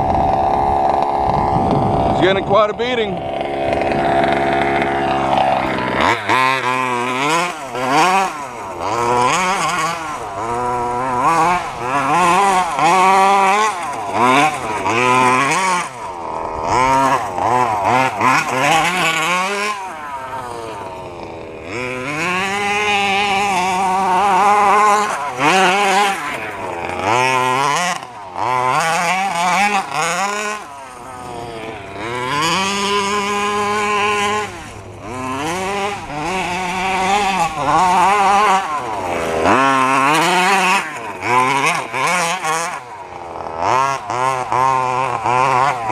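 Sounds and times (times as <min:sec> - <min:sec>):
small two-stroke engine revving: 0:00.0 - 0:45.9.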